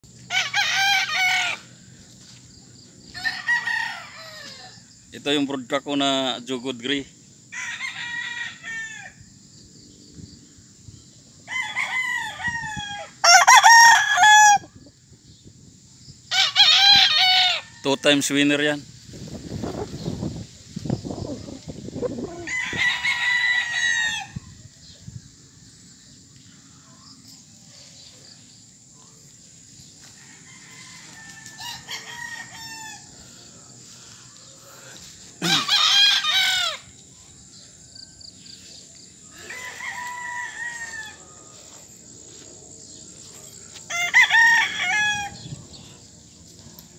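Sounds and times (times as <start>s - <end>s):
roosters crowing: 0.1s - 5.1s, 7.2s - 9.6s, 10.8s - 15.0s, 16.2s - 18.8s, 19.4s - 46.9s.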